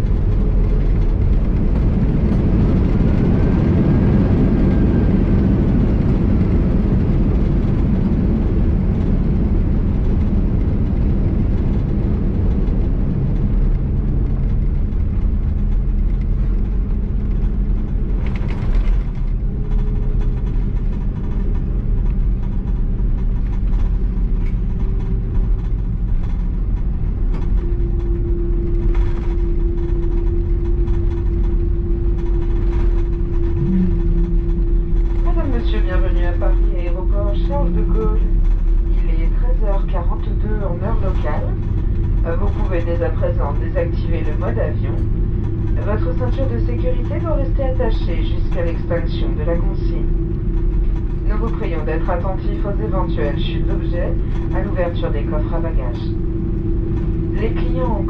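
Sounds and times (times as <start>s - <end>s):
aircraft cabin rumble: 0.0s - 58.0s
steady hum: 0.0s - 58.0s.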